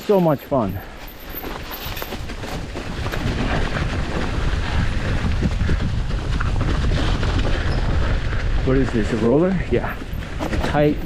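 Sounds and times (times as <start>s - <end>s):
bike tyres rumbling and rattling: 0.0s - 11.0s.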